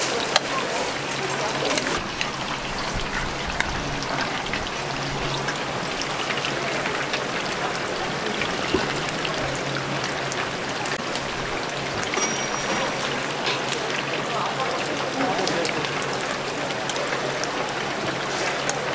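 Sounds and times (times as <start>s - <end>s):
chicken deep-frying in oil: 0.0s - 18.9s
small crackles of frying: 0.0s - 18.9s.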